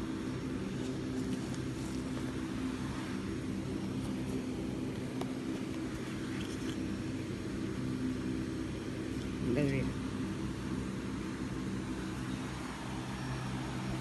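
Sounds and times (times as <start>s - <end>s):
electric fans whirring: 0.0s - 14.0s.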